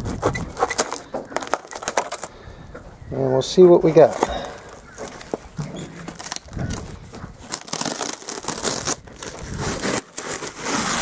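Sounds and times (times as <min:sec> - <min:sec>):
plastic packaging crinkling: 0:00.2 - 0:02.3, 0:04.1 - 0:11.0.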